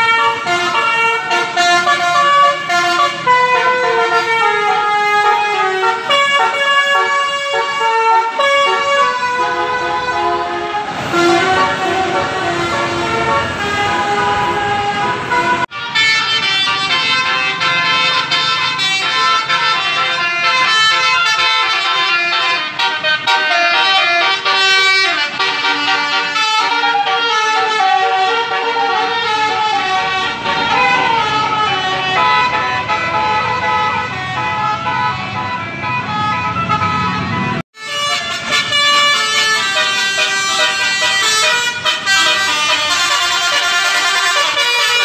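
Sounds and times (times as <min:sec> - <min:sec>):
melody horns playing tunes: 0:00.0 - 0:45.0.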